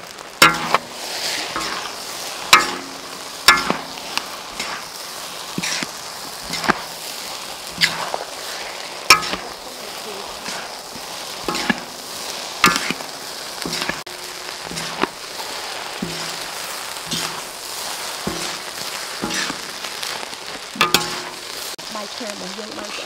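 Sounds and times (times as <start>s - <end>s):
rice sizzling in a wok: 0.0s - 23.0s
metal spatula striking a wok: 0.4s - 21.8s.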